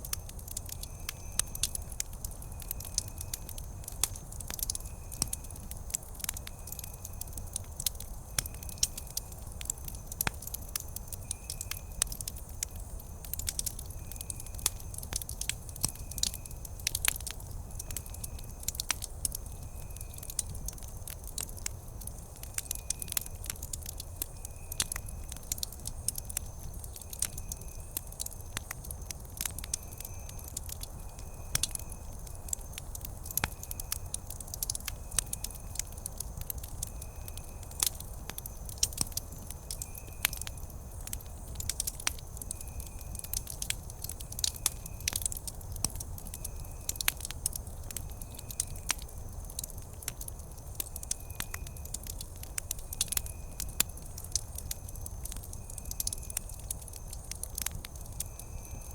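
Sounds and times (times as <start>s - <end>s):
campfire crackling and popping: 0.0s - 58.9s
low rumble of flames: 0.0s - 58.9s.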